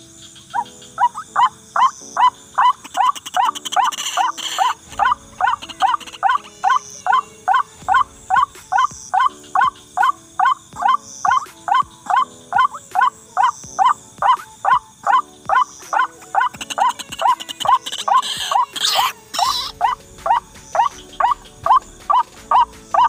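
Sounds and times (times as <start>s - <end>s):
waterhen calling: 0.0s - 23.0s.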